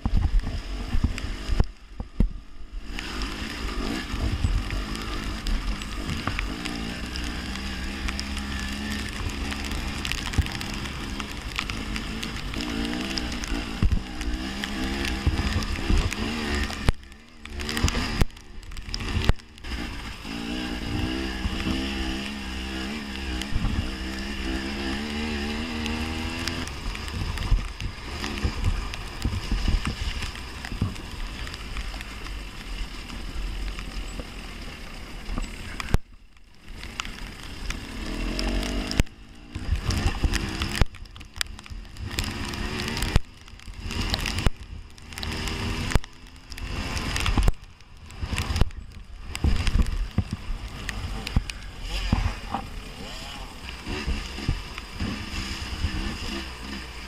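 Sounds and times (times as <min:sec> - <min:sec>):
dirt bike engine revving: 0:02.8 - 0:31.6, 0:36.8 - 0:57.0.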